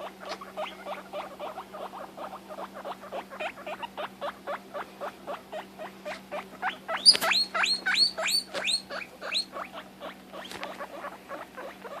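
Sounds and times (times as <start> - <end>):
guinea pig squealing: 0.0 - 12.0.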